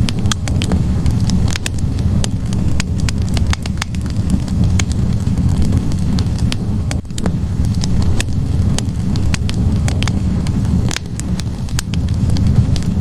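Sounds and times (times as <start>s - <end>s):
fire crackling and popping: 0.0s - 13.0s
low rumble of fire: 0.0s - 13.0s.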